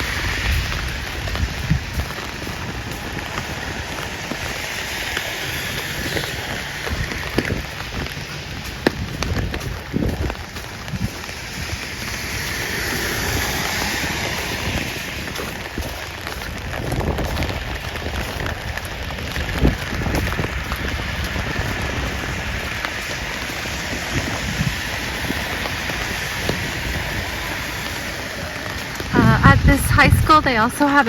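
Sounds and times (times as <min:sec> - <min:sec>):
rain on wet pavement: 0:00.0 - 0:31.0.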